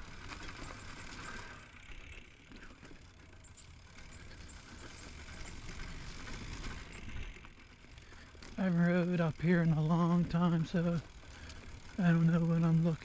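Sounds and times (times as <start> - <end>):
bike freewheel ticking: 0.0 - 13.0
tyres rumbling on dirt: 0.0 - 13.0.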